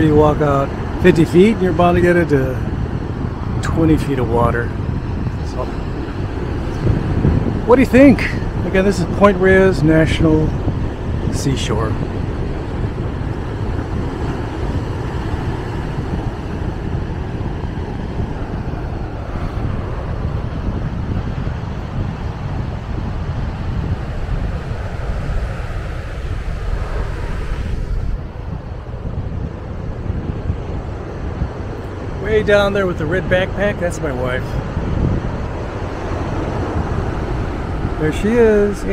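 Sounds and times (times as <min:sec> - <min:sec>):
heavy surf breaking: 0:00.0 - 0:38.9
wind rumbling on microphone: 0:00.0 - 0:38.9.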